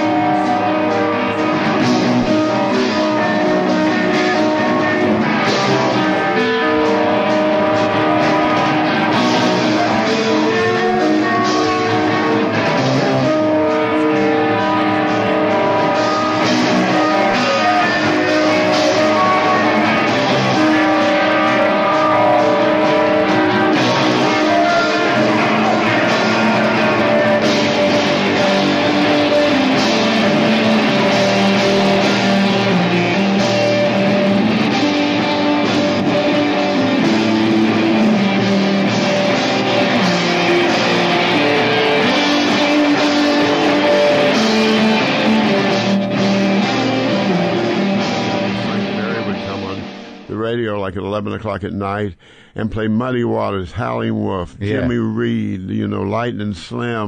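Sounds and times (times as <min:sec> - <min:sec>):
drum kit: 0:00.0 - 0:50.4
electric guitar through amp: 0:00.0 - 0:50.4.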